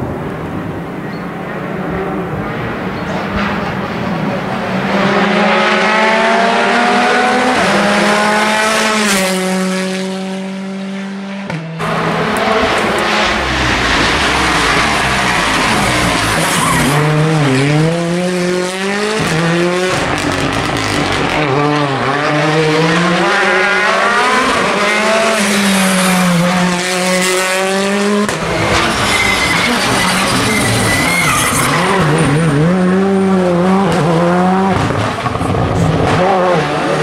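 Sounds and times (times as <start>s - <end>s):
rally car engine revving hard: 3.2s - 37.0s.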